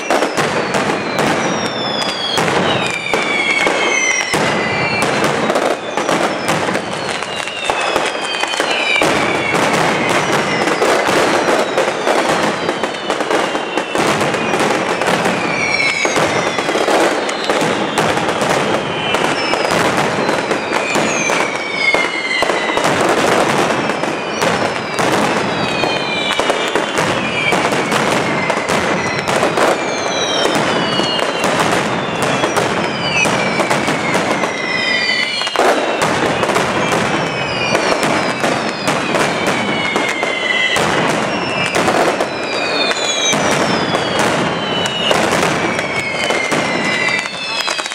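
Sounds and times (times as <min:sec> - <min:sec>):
falling whistles: 0:00.0 - 0:47.9
firecrackers banging rapidly: 0:00.0 - 0:47.9.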